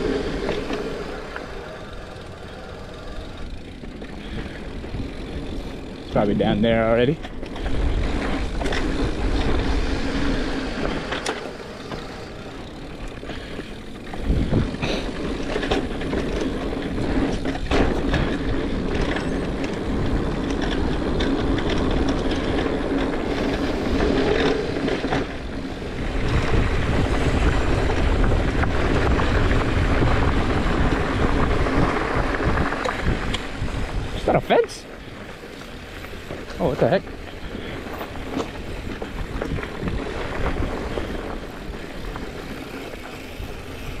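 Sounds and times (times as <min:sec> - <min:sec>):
bike rattles and knocks: 0:00.0 - 0:44.0
bike tyre riding noise: 0:00.0 - 0:44.0.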